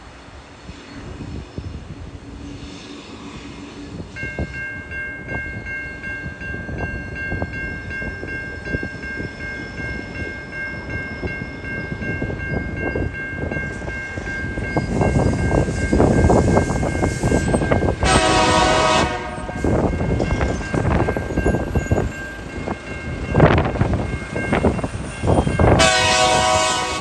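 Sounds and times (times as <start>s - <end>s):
train rumbling: 0.0s - 27.0s
crossing warning bell ringing: 3.8s - 27.0s.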